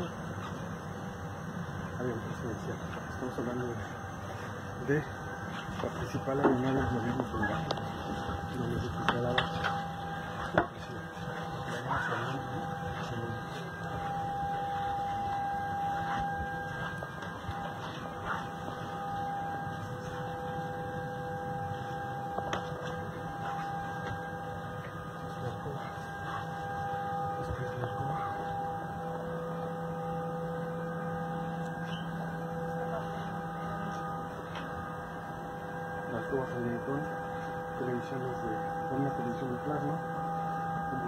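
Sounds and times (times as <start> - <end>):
held tones: 1.1 - 41.0
faint murmur of voices: 1.9 - 41.0.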